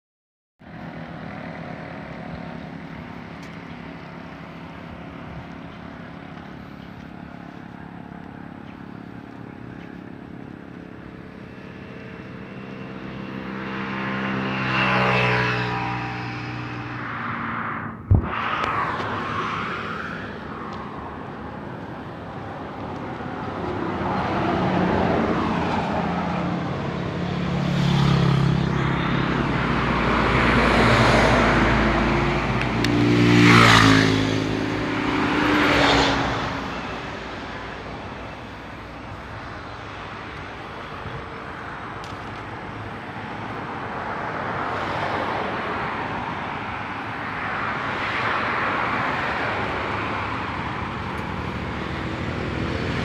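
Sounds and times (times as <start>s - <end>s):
vehicles passing: 0.6s - 53.0s.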